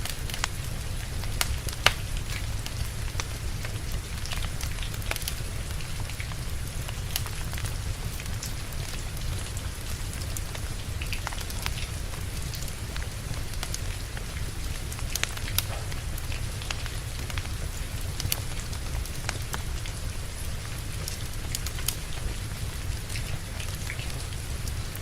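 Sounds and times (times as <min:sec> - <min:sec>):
steady rain falling: 0:00.0 - 0:25.0
wood fire crackling: 0:00.0 - 0:25.0.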